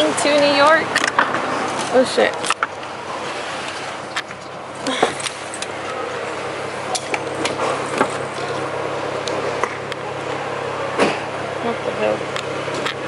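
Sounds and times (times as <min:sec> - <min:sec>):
vehicle traffic noise: 0:00.0 - 0:13.0.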